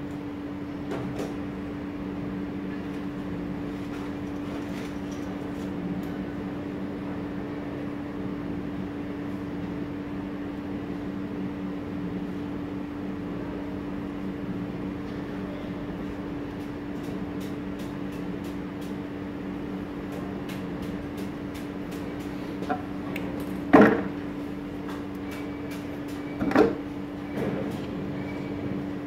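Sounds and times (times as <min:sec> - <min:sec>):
low hum with held tones: 0:00.0 - 0:29.0.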